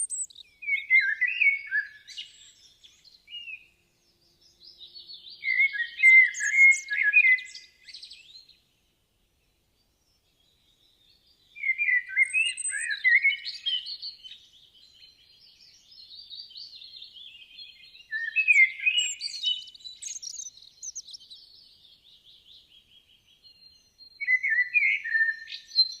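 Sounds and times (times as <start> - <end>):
songbird chirping and warbling: 0.0 - 26.0.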